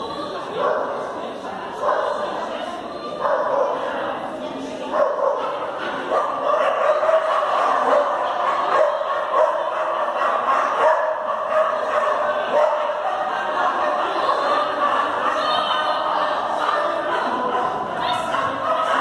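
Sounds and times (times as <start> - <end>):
dog barking: 0.5 - 1.0, 1.8 - 2.3, 3.2 - 4.0, 4.9 - 19.0.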